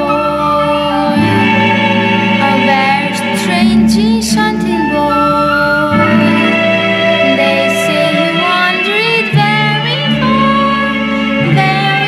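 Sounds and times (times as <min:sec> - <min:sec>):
girl singing: 0:00.0 - 0:01.8, 0:02.4 - 0:12.0
piano chords: 0:00.0 - 0:12.0.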